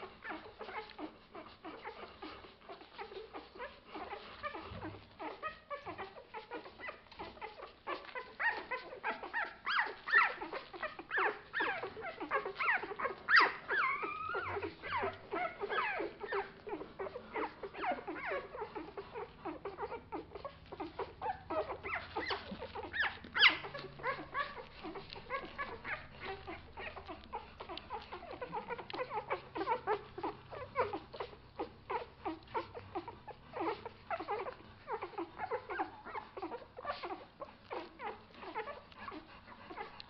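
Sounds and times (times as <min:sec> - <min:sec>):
puppies squeaking and whimpering: 0:00.0 - 0:40.0.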